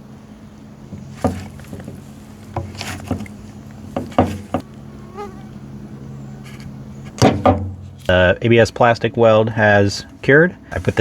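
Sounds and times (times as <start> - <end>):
low buzzing hum: 0.0 - 11.0.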